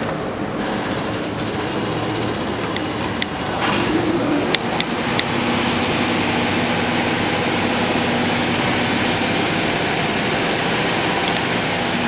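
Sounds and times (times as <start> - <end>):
machinery whirring: 0.0 - 12.0.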